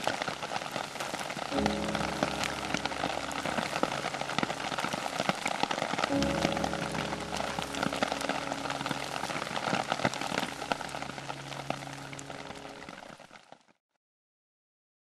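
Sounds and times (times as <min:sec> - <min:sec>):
low piano notes: 0:00.0 - 0:13.3
rain pattering on leaves: 0:00.0 - 0:13.8.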